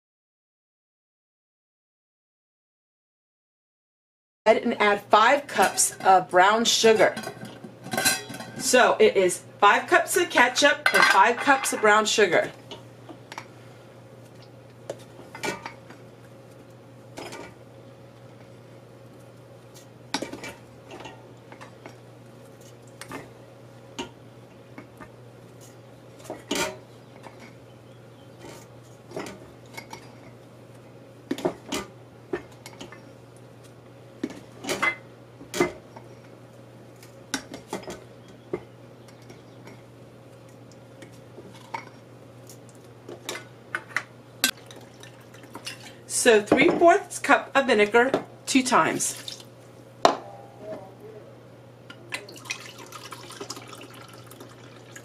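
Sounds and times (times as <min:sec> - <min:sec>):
faint steady hum: 0:04.5 - 0:55.0.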